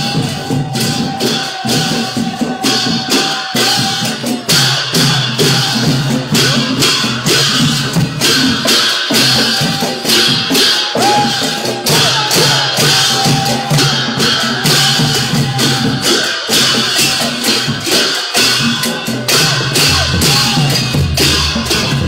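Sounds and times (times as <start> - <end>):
music with jingling percussion: 0.0 - 22.0.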